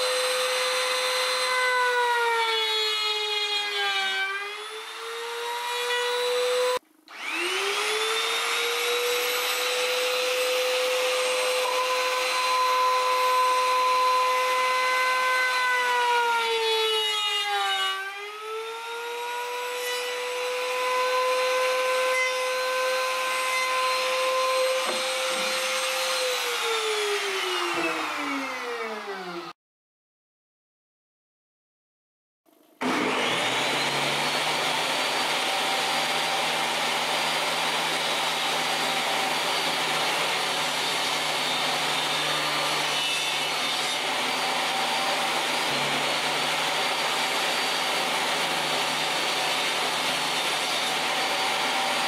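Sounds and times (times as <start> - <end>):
trim router whining: 0.0 - 29.6, 32.8 - 52.0.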